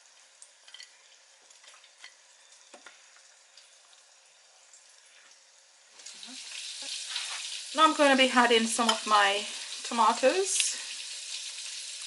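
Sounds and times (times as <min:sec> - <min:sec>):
tortilla sizzling on grill: 0:00.0 - 0:12.0.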